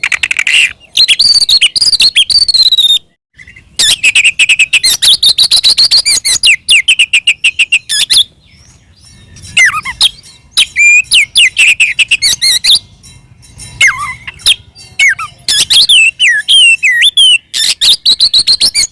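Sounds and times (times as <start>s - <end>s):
bird singing with sharp chattering: 0.0s - 18.9s.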